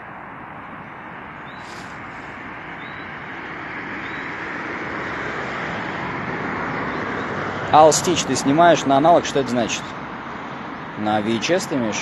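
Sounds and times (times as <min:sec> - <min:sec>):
vehicle approaching on road: 0:00.0 - 0:12.0.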